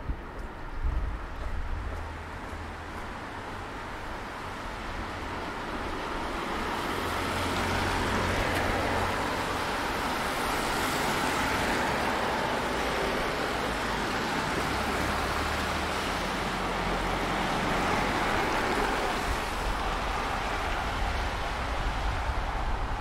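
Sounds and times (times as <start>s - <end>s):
tyres hissing on wet street: 1.8s - 23.0s.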